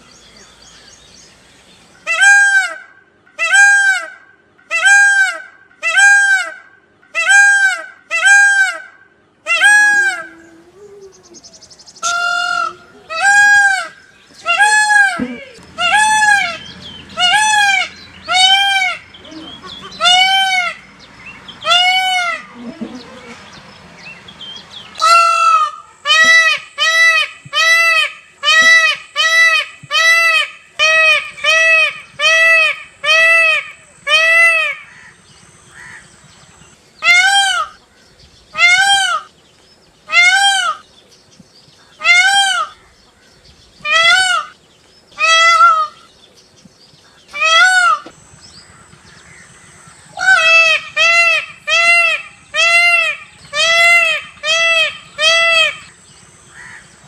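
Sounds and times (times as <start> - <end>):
peacock calling: 0.0 - 57.0.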